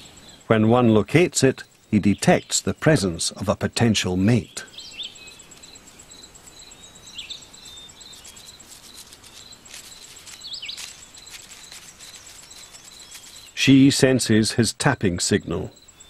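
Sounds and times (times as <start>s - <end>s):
bird chirps: 0.0s - 16.0s
faint scattered ticks: 0.0s - 16.0s
insect chirping rapidly: 0.0s - 16.0s
soft background hiss: 0.0s - 16.0s.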